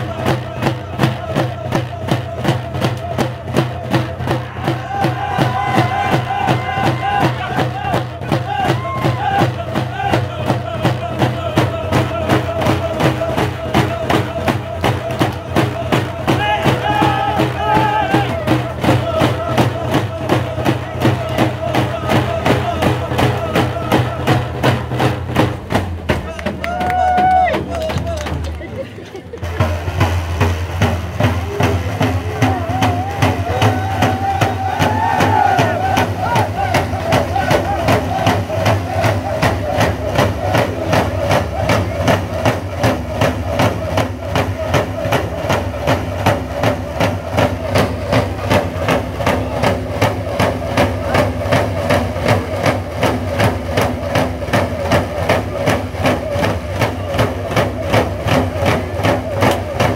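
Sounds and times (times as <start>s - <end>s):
voices chanting a song: 0.0s - 28.4s, 29.6s - 59.9s
hand drums beating fast rhythm: 0.0s - 28.7s, 29.4s - 59.9s.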